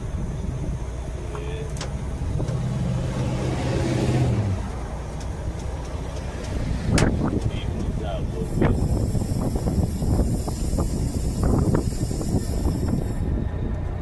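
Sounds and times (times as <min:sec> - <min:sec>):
passing engine and road hiss: 0:00.0 - 0:14.0
vehicle engine rumbling: 0:00.0 - 0:14.0.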